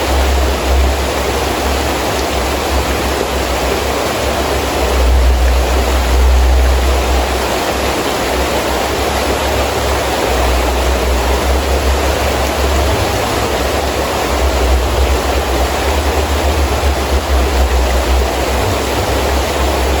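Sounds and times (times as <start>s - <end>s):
gusting wind rumble: 0.0s - 20.0s
heavy rain: 0.0s - 20.0s.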